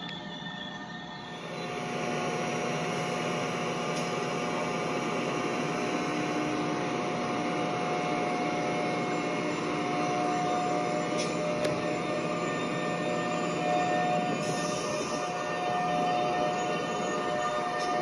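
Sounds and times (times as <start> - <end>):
toy train motor whining: 0.0 - 18.0.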